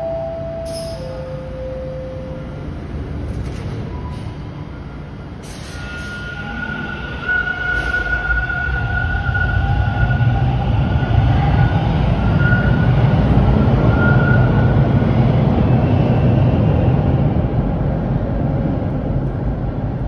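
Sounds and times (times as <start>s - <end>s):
subway train high whine: 0.0s - 20.0s
train wheels rumbling on rail: 0.0s - 20.0s.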